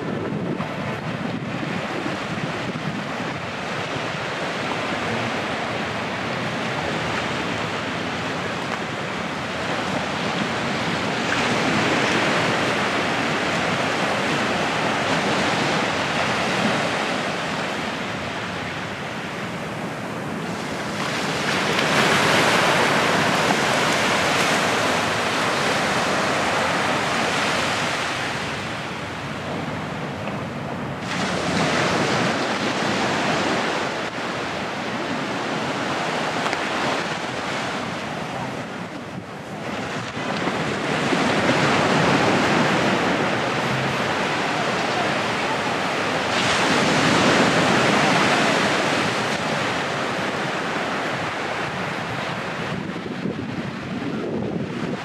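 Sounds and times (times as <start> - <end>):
sea surf breaking: 0.0 - 55.0.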